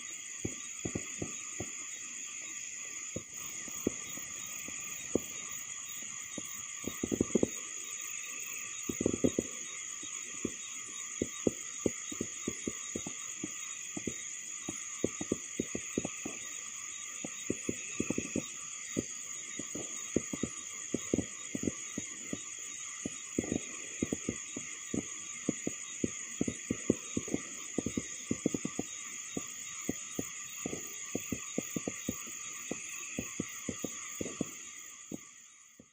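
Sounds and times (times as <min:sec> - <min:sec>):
crickets chirping: 0:00.0 - 0:35.9.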